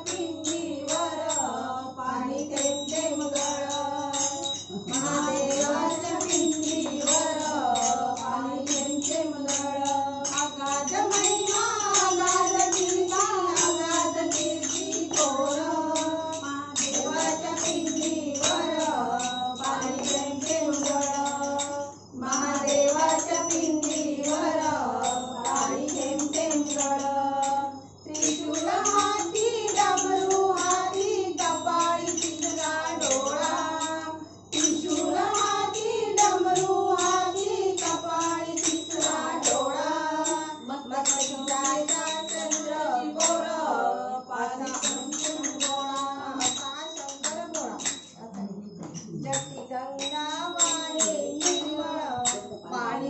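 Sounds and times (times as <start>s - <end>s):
group of women singing: 0.0s - 53.0s
small hand cymbals: 0.0s - 53.0s.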